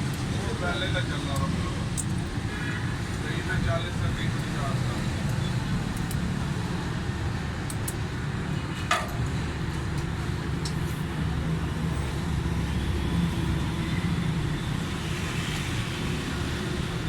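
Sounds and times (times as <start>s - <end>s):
low rumble of vehicle traffic: 0.0s - 17.0s.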